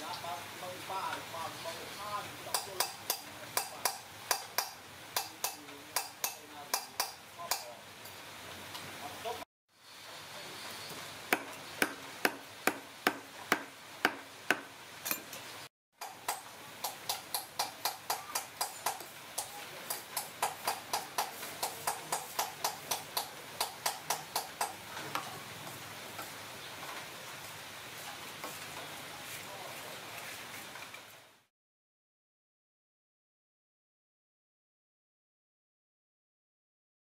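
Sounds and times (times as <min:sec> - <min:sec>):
steady low hiss: 0:00.0 - 0:31.5.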